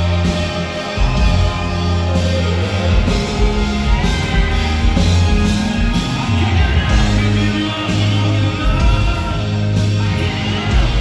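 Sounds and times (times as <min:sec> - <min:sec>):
live rock band playing: 0:00.0 - 0:11.0
man singing: 0:00.0 - 0:11.0.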